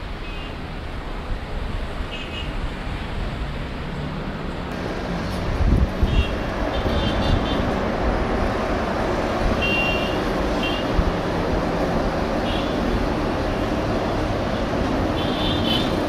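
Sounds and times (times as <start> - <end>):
airliner jet engines rumbling: 0.0 - 16.0.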